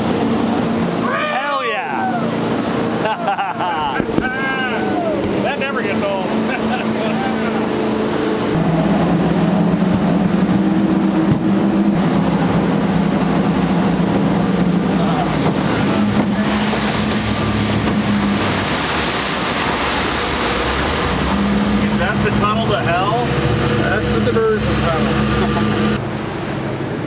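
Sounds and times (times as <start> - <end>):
motorboat engine hum: 0.0 - 27.0
water rushing against hull: 0.0 - 27.0.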